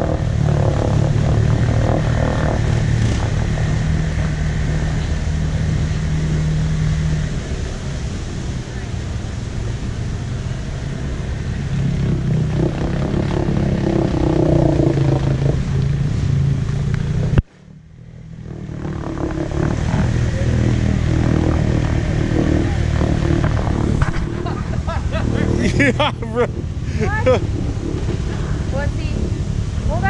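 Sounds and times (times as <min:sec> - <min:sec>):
atv engine running under load: 0:00.0 - 0:30.0.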